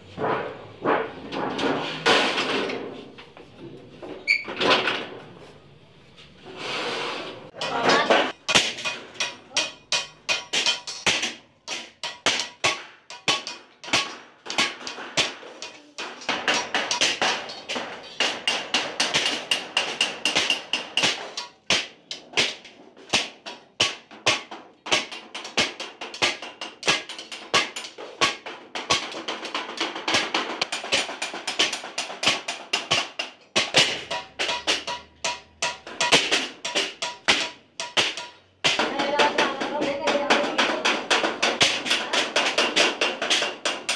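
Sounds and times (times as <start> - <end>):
hammer striking sheet metal: 0.0 - 3.0, 7.5 - 43.9.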